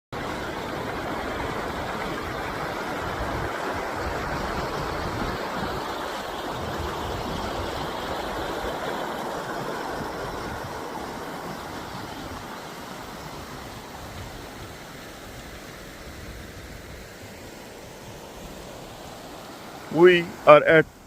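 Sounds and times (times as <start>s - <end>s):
river rushing: 0.2s - 21.0s.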